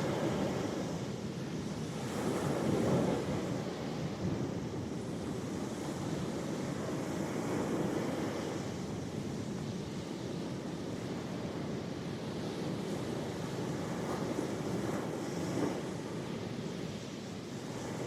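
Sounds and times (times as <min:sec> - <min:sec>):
ocean waves washing ashore: 0:00.0 - 0:18.0.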